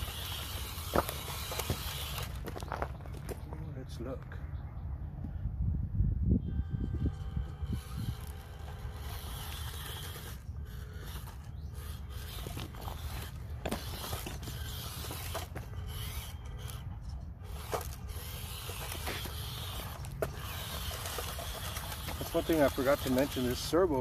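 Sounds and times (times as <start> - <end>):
toy car scraping on rock: 0.0 - 4.2, 6.5 - 24.0.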